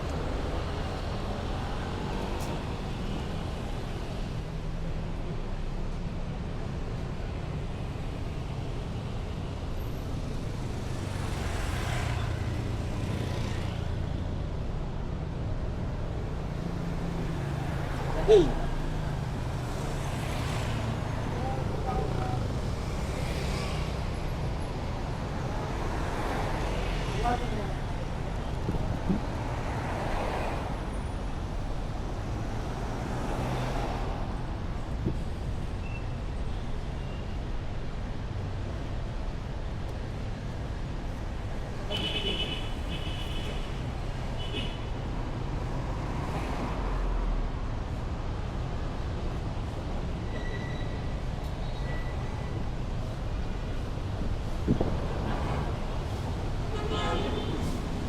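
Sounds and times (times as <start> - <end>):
traffic engine rumble: 0.0 - 44.4, 45.0 - 58.0.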